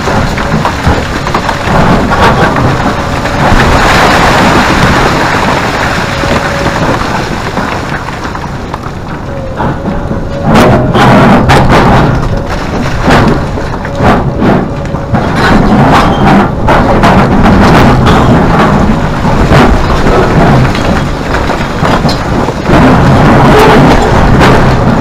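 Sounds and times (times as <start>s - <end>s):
excavator rumbling: 0.0s - 25.0s
rocks tumbling: 0.0s - 25.0s.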